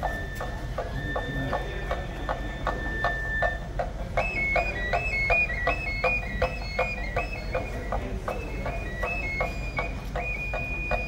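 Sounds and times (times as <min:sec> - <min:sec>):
high flute melody: 0:00.0 - 0:11.0
steady drumbeat: 0:00.0 - 0:11.0.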